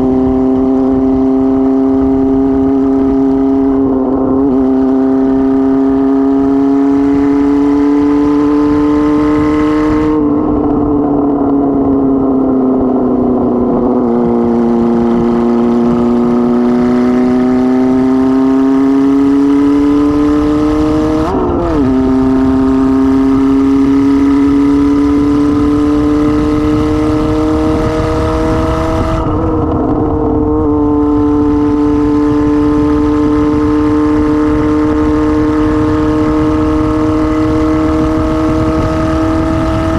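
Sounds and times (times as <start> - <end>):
unmuffled motorcycle engine: 0.0 - 39.9
wind noise rumble: 0.0 - 39.9.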